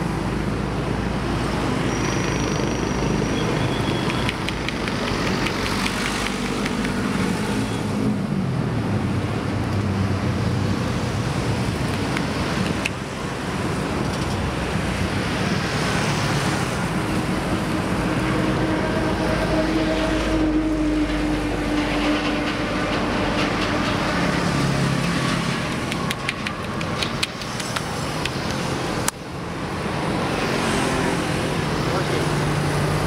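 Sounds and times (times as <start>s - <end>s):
highway traffic: 0.0s - 33.0s
passing vehicle engine hum: 0.0s - 33.0s.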